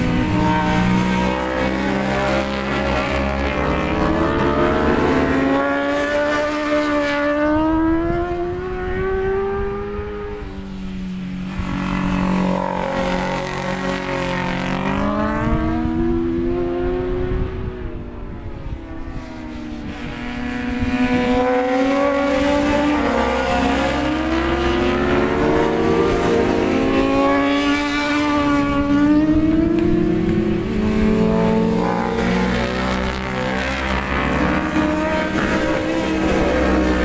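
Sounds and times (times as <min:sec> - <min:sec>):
racing motorcycles shifting gears: 0:00.0 - 0:37.0.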